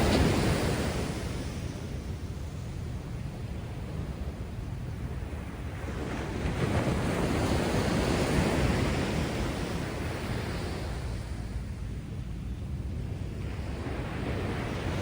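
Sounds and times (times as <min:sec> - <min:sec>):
low surf rumble: 0:00.0 - 0:15.0
wind on microphone: 0:00.0 - 0:15.0.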